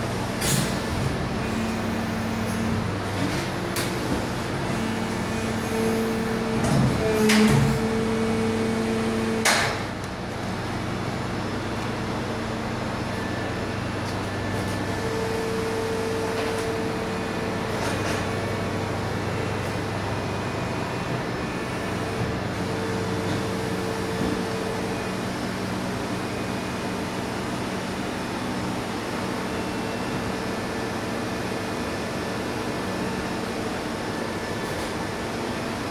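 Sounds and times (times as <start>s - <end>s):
machines humming with held tones: 0.0s - 35.9s.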